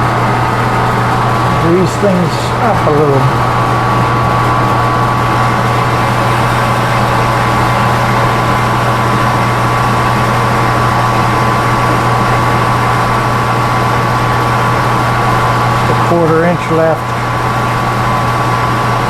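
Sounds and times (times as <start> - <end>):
metal lathe humming and whining: 0.0 - 19.0.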